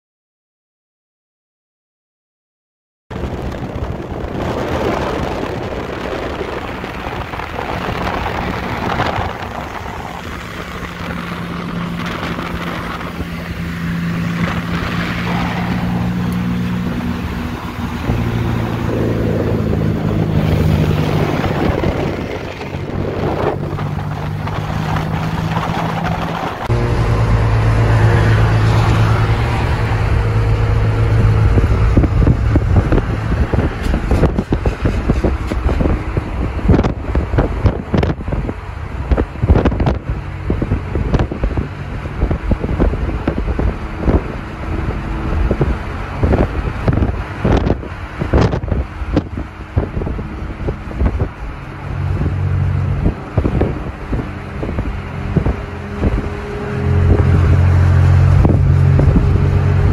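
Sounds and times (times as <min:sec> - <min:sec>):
car engine drone: 0:03.1 - 0:59.9
tyre and road noise: 0:03.1 - 0:59.9
wind on microphone: 0:03.1 - 0:59.9.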